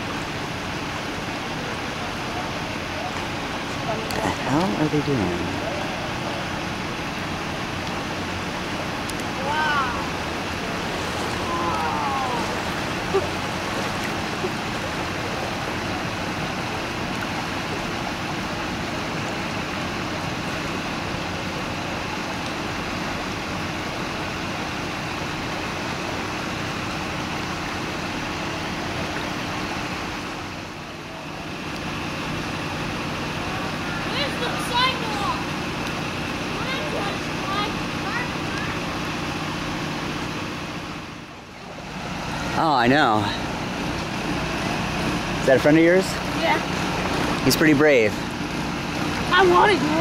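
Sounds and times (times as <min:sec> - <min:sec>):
floodwater rushing: 0:00.0 - 0:50.0
pickup truck engine idling: 0:00.0 - 0:50.0.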